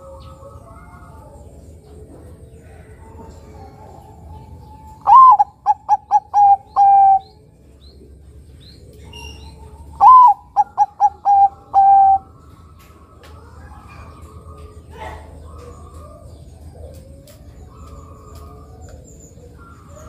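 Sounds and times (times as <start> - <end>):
dove cooing song: 0.0 - 20.0.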